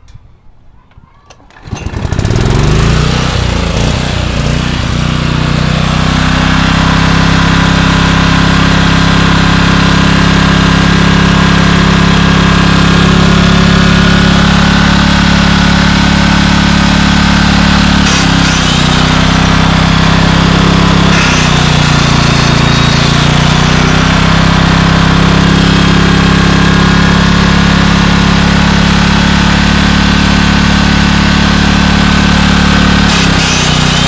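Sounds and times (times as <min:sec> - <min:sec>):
generator engine running: 0:01.4 - 0:34.0.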